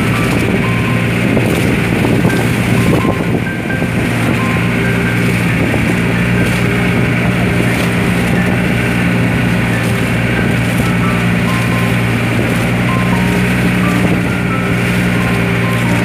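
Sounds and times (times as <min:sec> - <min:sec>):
boat engine running: 0:00.0 - 0:16.0
water rushing along hull: 0:00.0 - 0:16.0.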